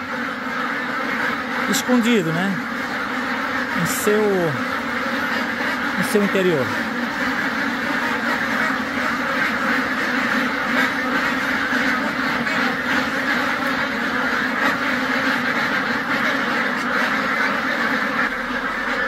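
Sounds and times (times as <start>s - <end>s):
flock of ducks quacking: 0.0s - 19.0s.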